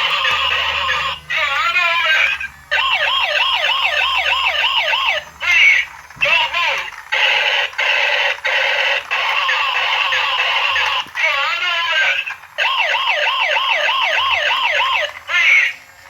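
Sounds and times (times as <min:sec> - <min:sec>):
toy police siren: 0:00.0 - 0:16.0.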